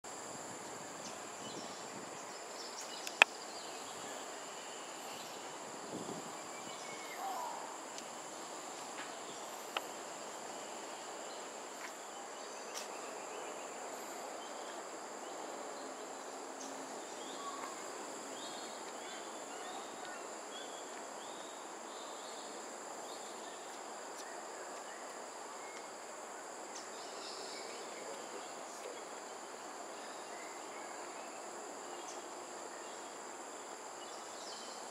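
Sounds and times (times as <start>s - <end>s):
insect chorus drone: 0.1s - 34.9s.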